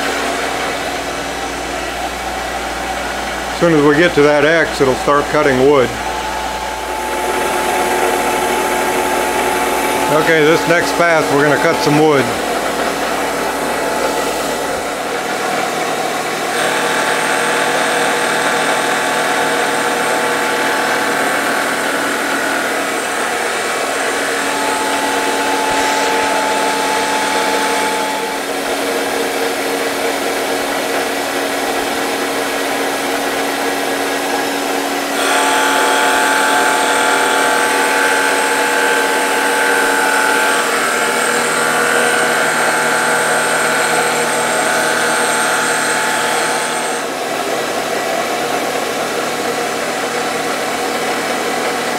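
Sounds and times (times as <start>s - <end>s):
lathe cutter cutting wood: 0.0s - 51.9s.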